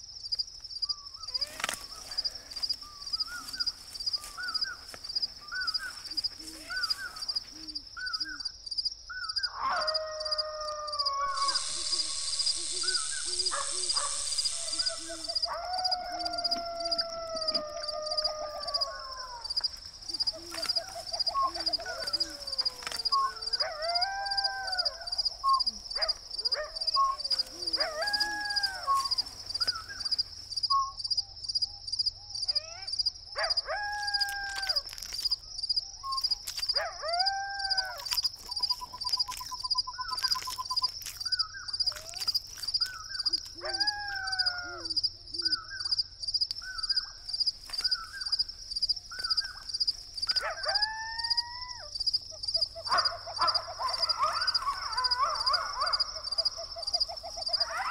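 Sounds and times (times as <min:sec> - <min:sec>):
crickets chirping: 0:00.0 - 0:57.9
coyotes howling: 0:00.9 - 0:31.0, 0:32.4 - 0:35.3, 0:36.0 - 0:57.9.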